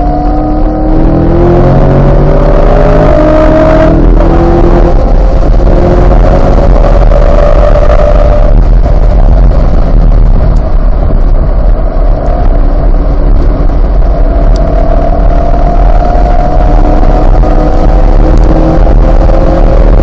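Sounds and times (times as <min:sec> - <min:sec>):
sports car engine revving: 0:00.0 - 0:20.0.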